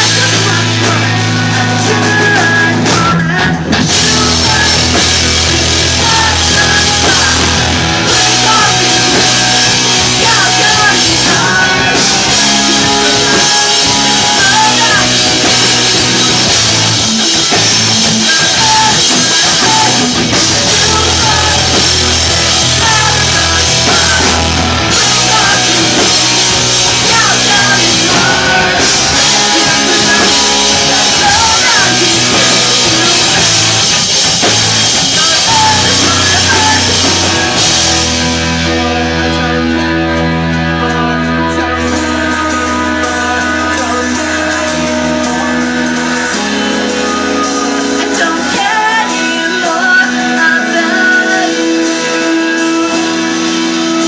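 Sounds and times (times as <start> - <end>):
bass guitar: 0.0 - 54.0
drums with crashing cymbals: 0.0 - 54.0
electric guitar: 0.0 - 54.0
person singing: 0.0 - 54.0.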